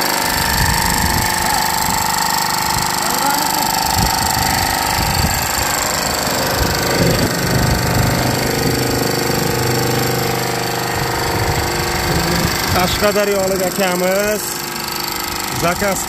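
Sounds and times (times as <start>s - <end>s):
fast mechanical rattle: 0.0s - 16.0s
motor and hydraulic pump hum: 0.0s - 16.0s.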